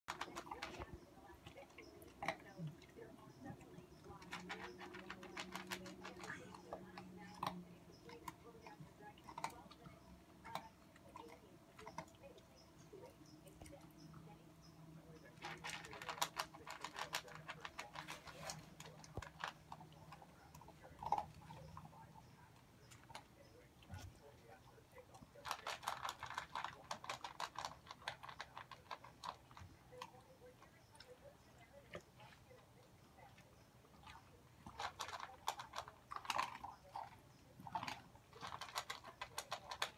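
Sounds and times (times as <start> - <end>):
dog crunching kibble: 0.1 - 39.9.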